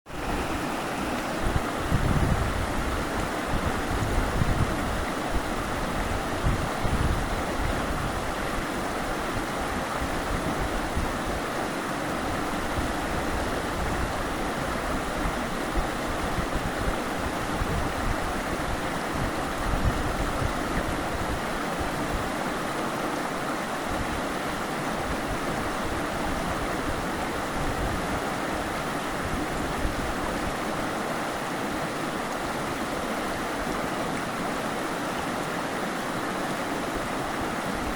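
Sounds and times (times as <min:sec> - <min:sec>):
water rushing: 0:00.1 - 0:37.9.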